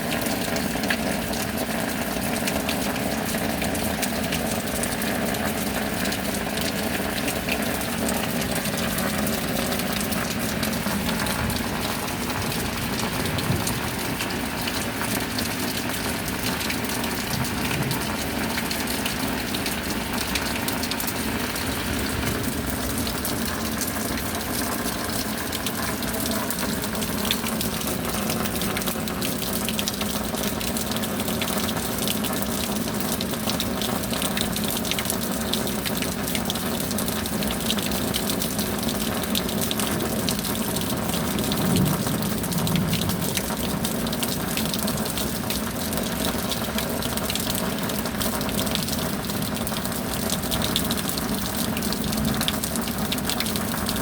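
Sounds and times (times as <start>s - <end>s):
raindrops hitting close by: 0.0s - 54.0s
rushing water: 0.0s - 54.0s
steady rain: 0.0s - 54.0s.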